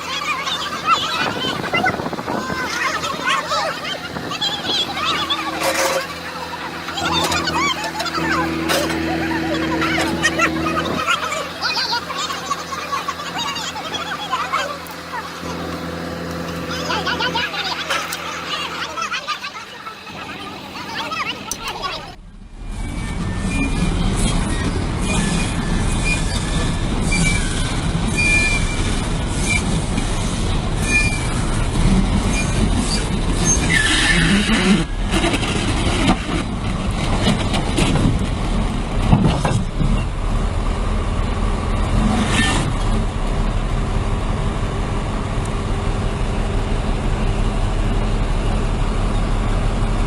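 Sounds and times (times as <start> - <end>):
heavy machinery engine rumble: 0.0 - 50.0.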